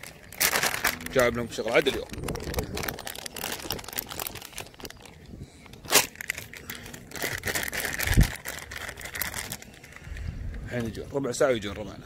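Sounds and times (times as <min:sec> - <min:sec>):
plastic bag rustling: 0:00.0 - 0:10.6.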